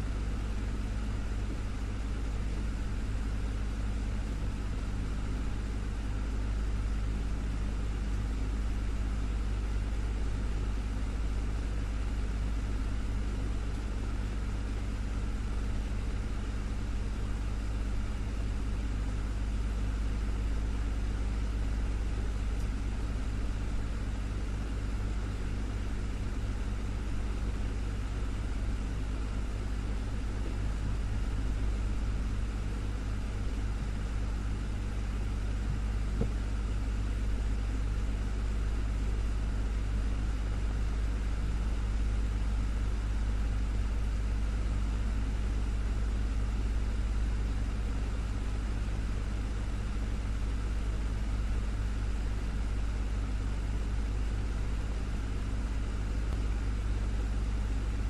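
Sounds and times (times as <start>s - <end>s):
desktop fan running: 0.0s - 58.0s.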